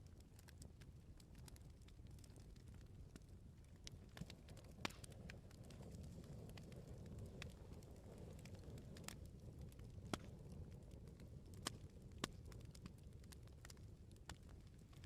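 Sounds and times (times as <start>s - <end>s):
bonfire crackling: 0.0s - 15.0s
low rumble of flames: 0.0s - 15.0s.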